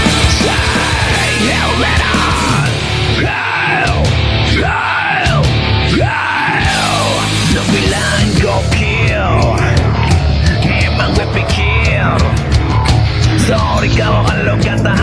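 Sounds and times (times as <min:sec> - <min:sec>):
heavy metal band playing: 0:00.0 - 0:15.0
high swooping guitar line: 0:00.0 - 0:15.0.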